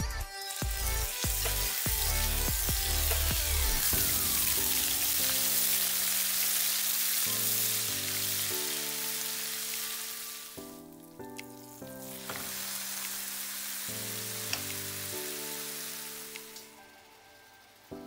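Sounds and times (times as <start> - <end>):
paste sizzling in hot oil: 0.4 - 17.3.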